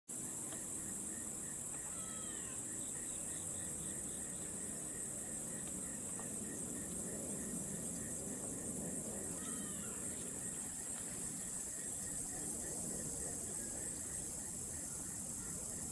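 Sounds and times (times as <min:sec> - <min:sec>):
insect chorus hiss: 0:00.1 - 0:15.9.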